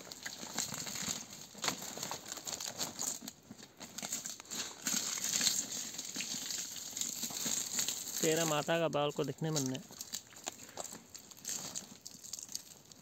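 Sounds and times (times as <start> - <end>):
leaves and bamboo strips rustling: 0.0 - 13.0
small crackles: 0.0 - 13.0.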